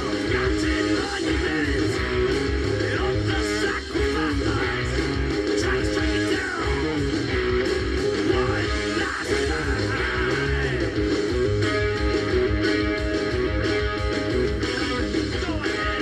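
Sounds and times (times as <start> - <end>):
bass guitar: 0.0 - 16.0
drums: 0.0 - 16.0
electric guitar riff: 0.0 - 16.0.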